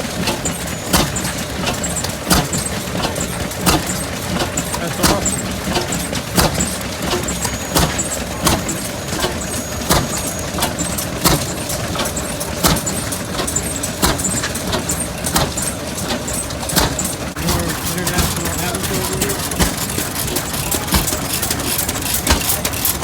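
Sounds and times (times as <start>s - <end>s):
old engine running slowly: 0.0s - 23.0s.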